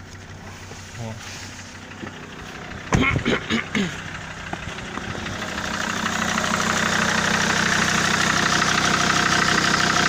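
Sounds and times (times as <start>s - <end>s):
diesel engine idling with knock: 0.0s - 10.0s.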